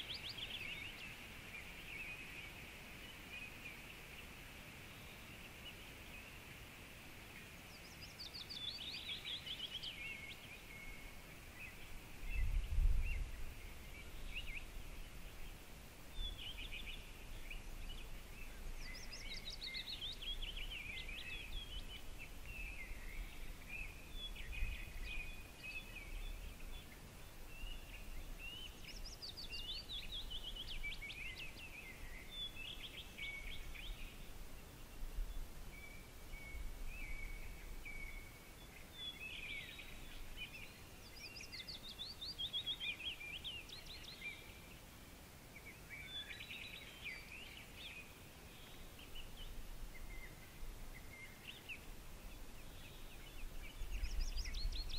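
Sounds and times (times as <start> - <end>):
faint steady hiss: 0.0 - 54.9
songbirds singing: 0.0 - 54.9.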